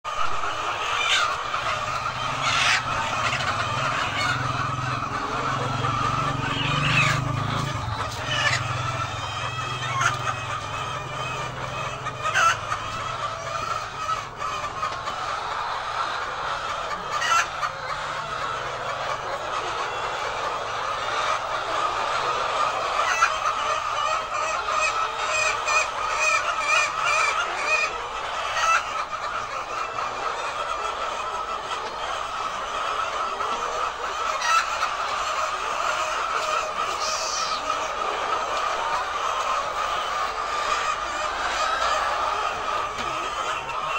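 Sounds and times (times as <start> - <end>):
hens clucking: 0.0 - 43.9.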